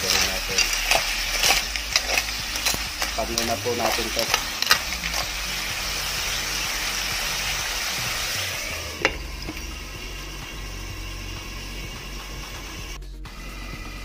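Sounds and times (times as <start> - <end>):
snails sizzling in a frying pan: 0.0 - 13.0.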